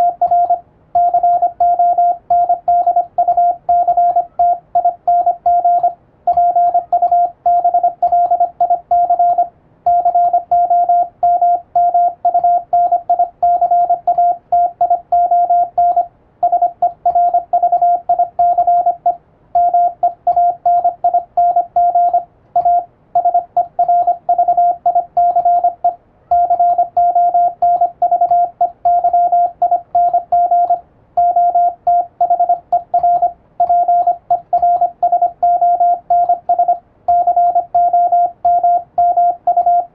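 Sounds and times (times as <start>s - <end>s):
morse code tone: 0.0s - 39.9s.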